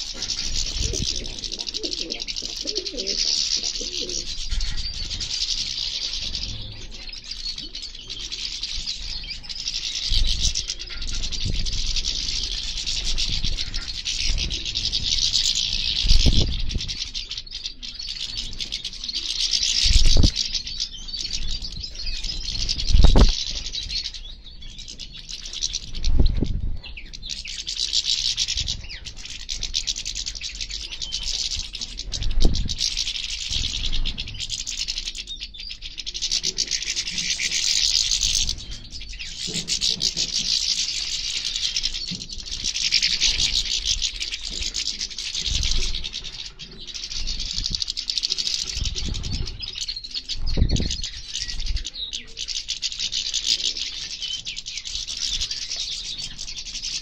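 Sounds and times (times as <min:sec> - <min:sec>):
finches twittering: 0:00.0 - 0:57.0.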